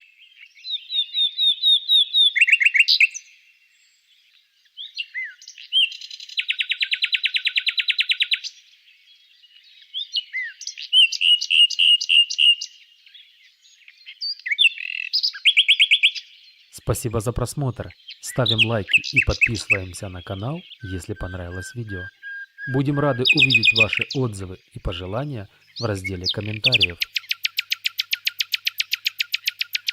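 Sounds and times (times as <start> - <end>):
songbird singing: 0.0 - 29.9
songbird trill: 0.0 - 29.9.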